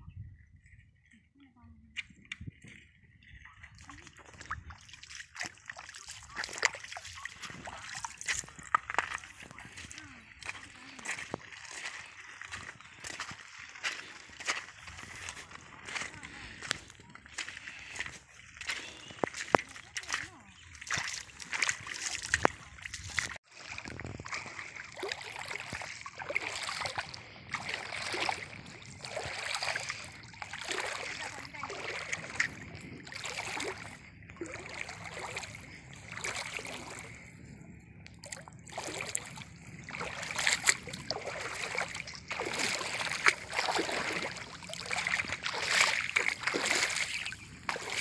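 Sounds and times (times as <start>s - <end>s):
river water splashing over stones: 3.8s - 37.3s, 38.2s - 48.0s.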